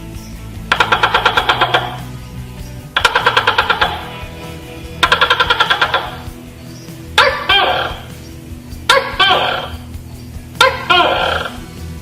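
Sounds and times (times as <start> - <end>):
gecko chirping: 0.0 - 11.9.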